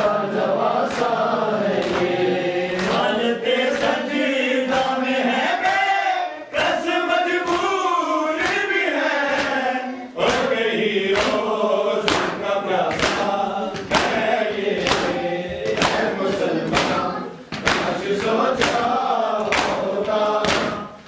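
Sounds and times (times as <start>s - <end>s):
men chanting together: 0.0s - 21.0s
rhythmic chest-beating: 0.0s - 21.0s.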